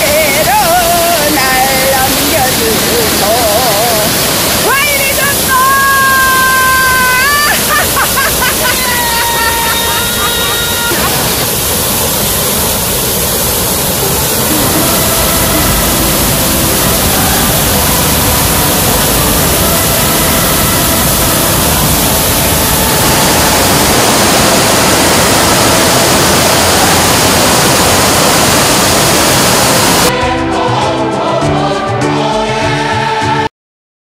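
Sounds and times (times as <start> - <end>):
waterfall rushing: 0.0 - 30.6.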